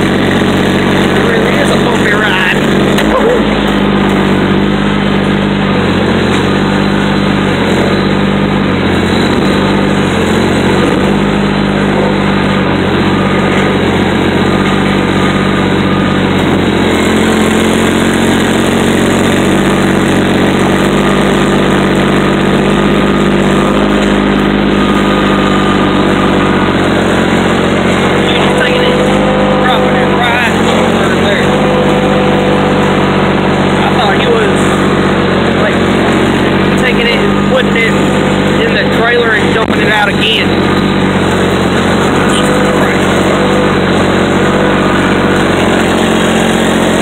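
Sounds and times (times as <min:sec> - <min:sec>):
diesel engine running: 0:00.0 - 0:47.0
grapple crane working: 0:00.0 - 0:47.0.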